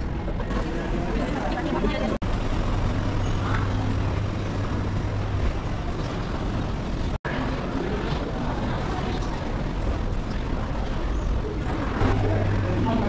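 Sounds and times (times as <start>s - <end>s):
bus terminal background noise: 0.0s - 13.0s.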